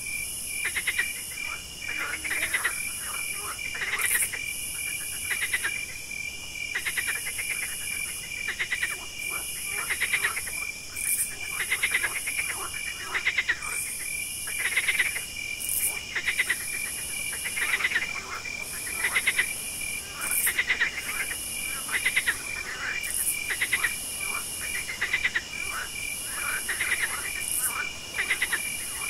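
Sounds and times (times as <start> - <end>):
crickets chirping: 0.0 - 29.0
frogs trilling: 0.0 - 29.0
high insect buzz: 0.0 - 29.0.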